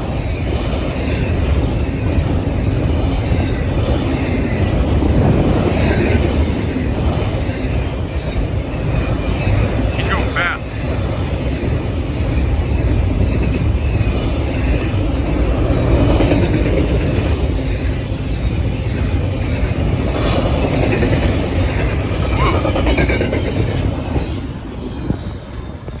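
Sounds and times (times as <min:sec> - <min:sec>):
freight train rumbling past: 0:00.0 - 0:26.0
wheel clatter on rails: 0:00.0 - 0:26.0.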